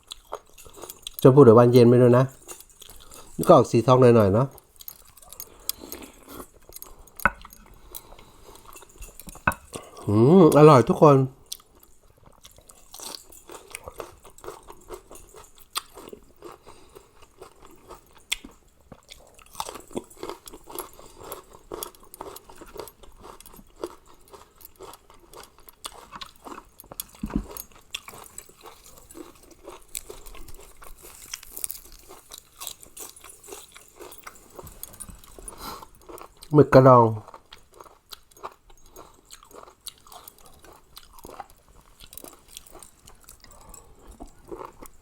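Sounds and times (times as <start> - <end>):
person chewing and crunching food: 0.0 - 45.0.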